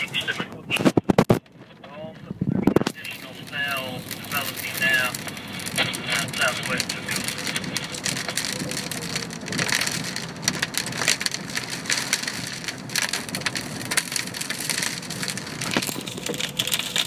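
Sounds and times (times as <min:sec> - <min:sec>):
rain on car roof and windows: 0:00.0 - 0:17.0.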